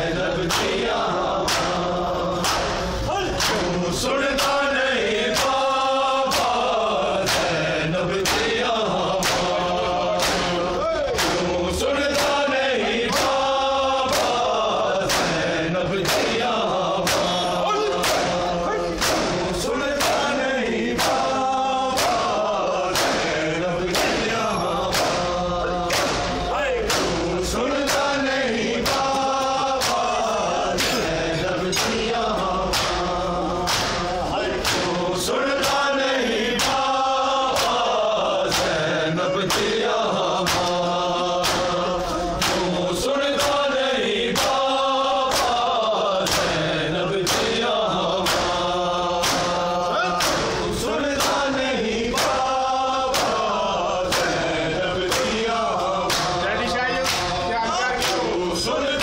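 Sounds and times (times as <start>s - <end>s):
men chanting together: 0.0s - 59.0s.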